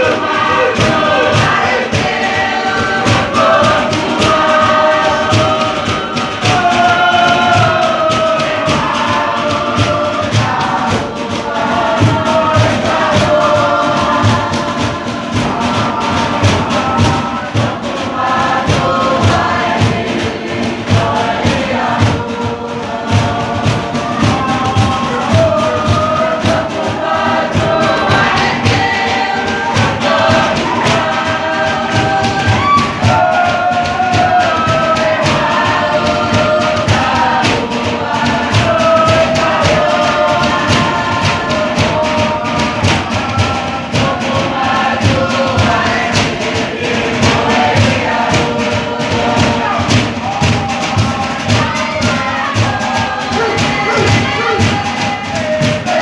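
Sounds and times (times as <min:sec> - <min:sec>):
fast steady drum beat: 0:00.0 - 0:56.0
group of voices singing: 0:00.0 - 0:56.0.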